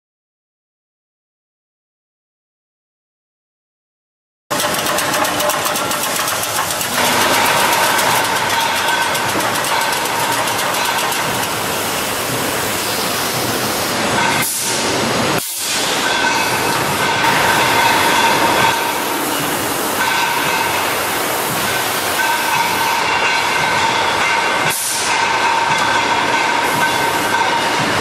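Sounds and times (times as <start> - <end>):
production line machinery running: 4.5 - 28.0.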